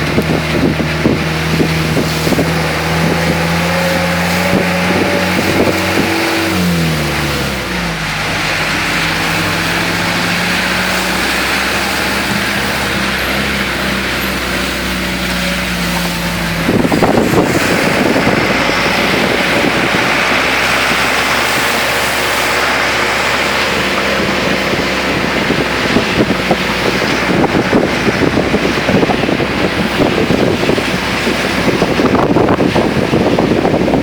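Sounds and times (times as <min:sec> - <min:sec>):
car engine hum: 0:00.0 - 0:34.0
wind and road spray rushing: 0:00.0 - 0:34.0
wind buffeting microphone: 0:00.0 - 0:34.0.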